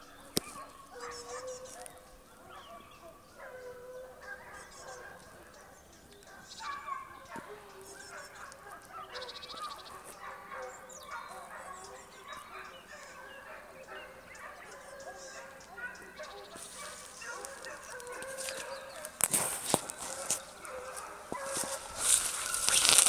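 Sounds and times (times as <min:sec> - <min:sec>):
hounds baying: 0:00.0 - 0:23.0.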